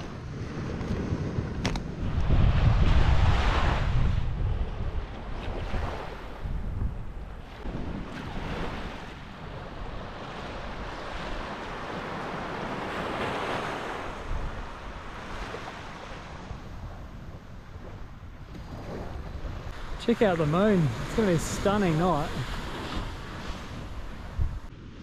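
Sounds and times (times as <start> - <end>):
surf washing up beach: 0.0 - 25.0
wind rumbling on microphone: 0.0 - 25.0.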